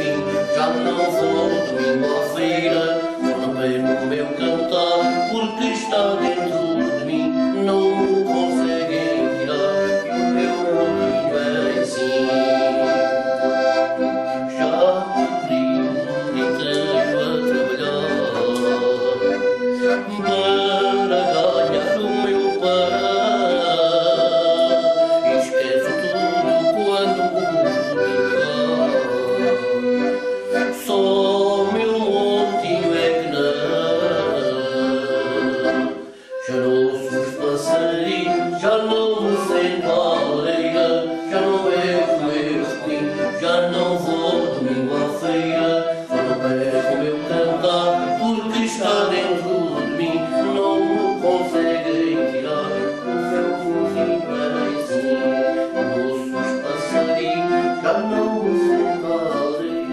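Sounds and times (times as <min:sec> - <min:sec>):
accordion playing folk tune: 0:00.0 - 0:59.9
man singing: 0:00.0 - 0:59.9.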